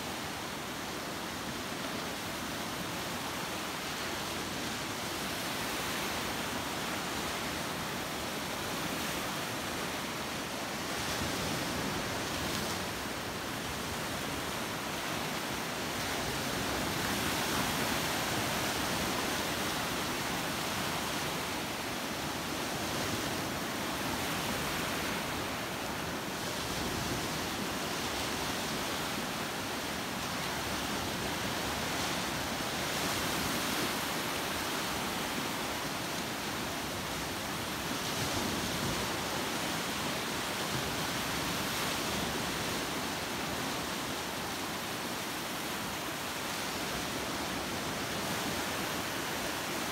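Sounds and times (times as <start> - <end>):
surf breaking on a beach: 0.0 - 49.9.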